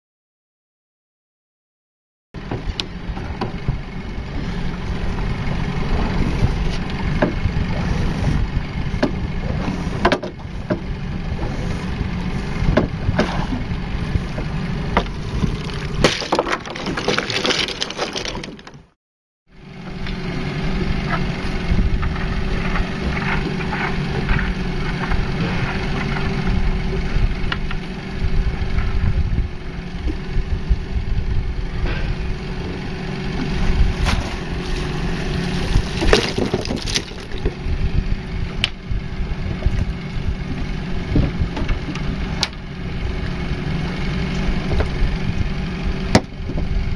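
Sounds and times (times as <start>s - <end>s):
boat engine idling: 2.4s - 16.8s, 19.7s - 46.9s.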